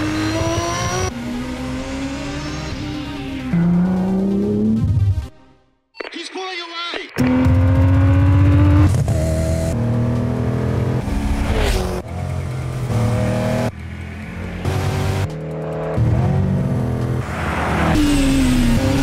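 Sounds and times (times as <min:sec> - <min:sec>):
race car engine at full throttle: 0:00.0 - 0:05.3, 0:07.2 - 0:19.0.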